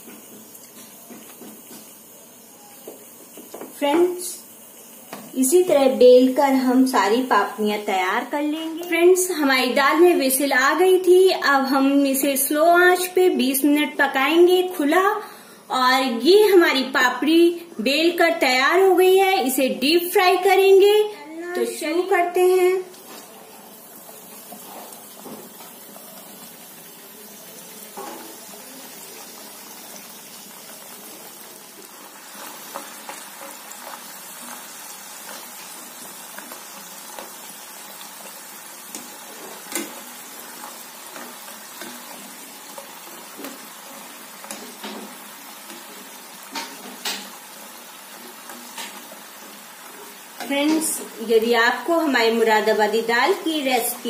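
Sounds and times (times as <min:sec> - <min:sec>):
oil sizzling: 0:00.0 - 0:54.0.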